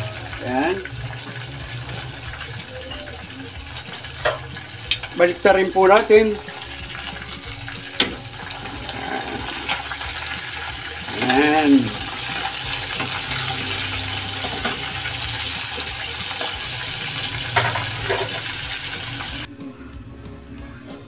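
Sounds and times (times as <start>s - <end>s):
oil sizzling and bubbling: 0.0s - 19.5s.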